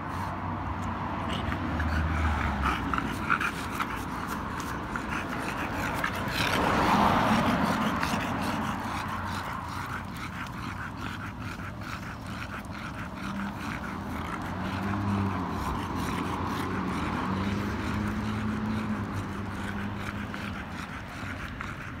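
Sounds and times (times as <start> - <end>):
car passing: 0.0 - 22.0.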